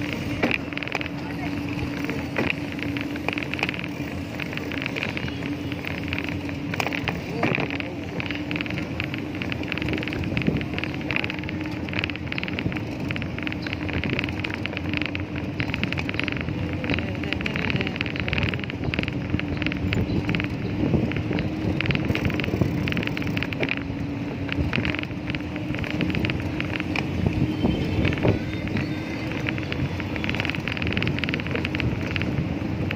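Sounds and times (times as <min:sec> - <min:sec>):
rapid uneven rattle of clicks: 0:00.0 - 0:32.9
tyre rumble on asphalt: 0:00.0 - 0:32.9
wind on microphone: 0:00.0 - 0:32.9.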